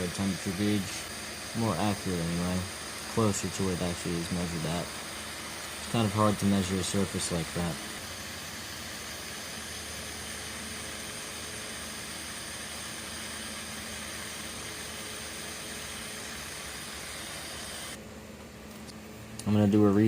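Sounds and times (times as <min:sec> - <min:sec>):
butane torch hissing: 0:00.0 - 0:18.0.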